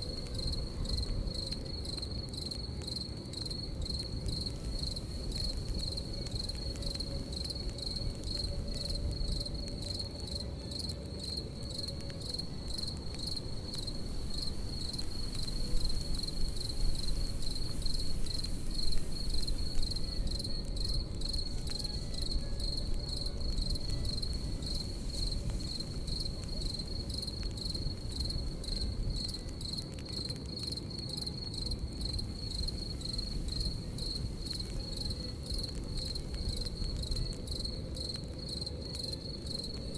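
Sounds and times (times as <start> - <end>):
campfire burning: 0.0 - 39.9
crickets chirping: 0.0 - 39.9.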